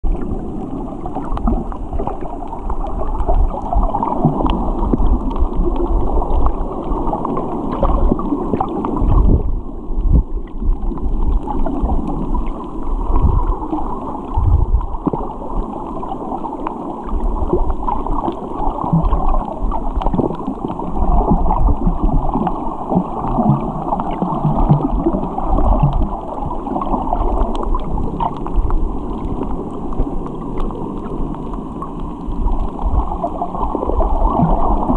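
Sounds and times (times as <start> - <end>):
underwater wash and rumble: 0.0 - 34.9.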